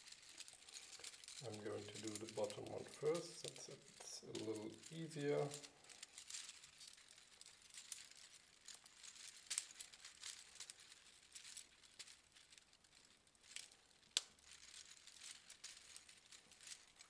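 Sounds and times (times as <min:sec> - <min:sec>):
plastic links clicking and rustling: 0:00.0 - 0:17.0.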